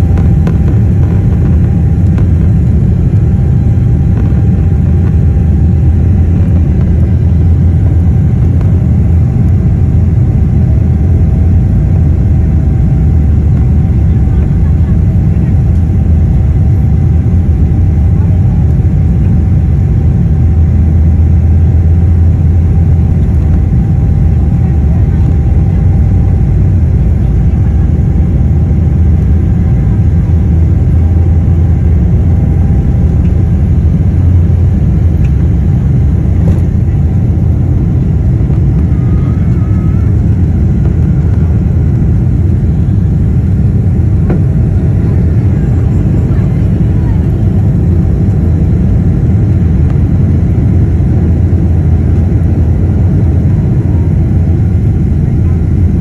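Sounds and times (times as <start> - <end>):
faint whine: 0.0 - 56.0
jet engines low rumble: 0.0 - 56.0.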